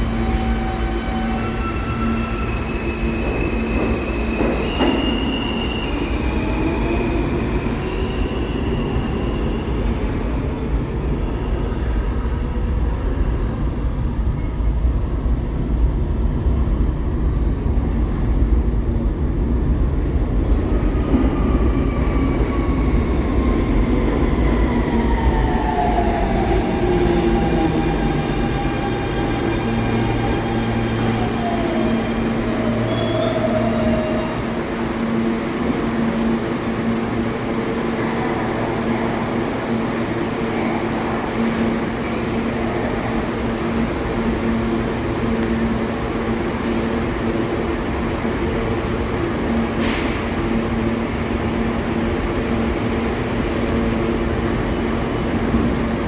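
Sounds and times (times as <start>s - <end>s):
subway train rumbling on rails: 0.0s - 56.0s.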